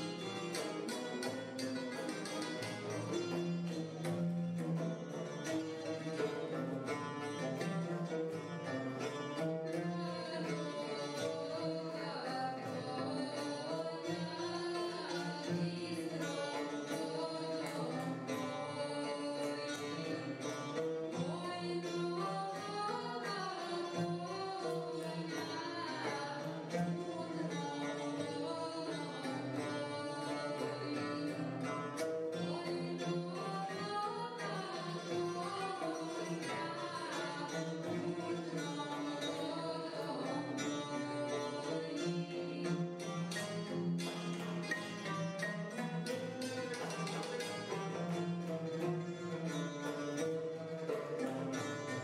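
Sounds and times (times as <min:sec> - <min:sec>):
acoustic folk ensemble: 0:00.0 - 0:52.0
plucked lute picking fast notes: 0:00.0 - 0:52.0.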